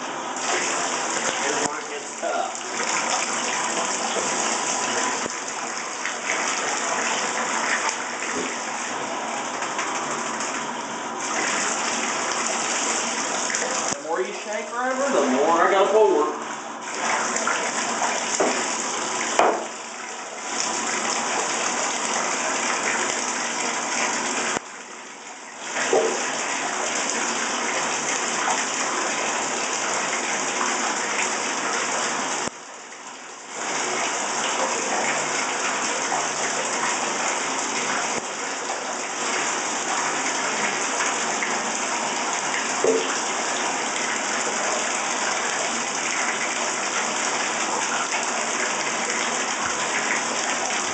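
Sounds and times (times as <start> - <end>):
water running into bathtub: 0.0 - 50.9.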